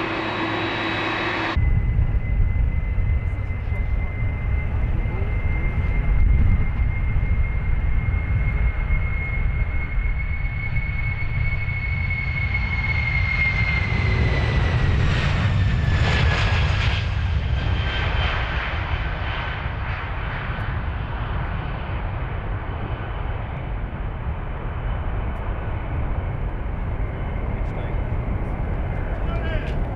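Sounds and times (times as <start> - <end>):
jet engines passing by: 0.0 - 29.9.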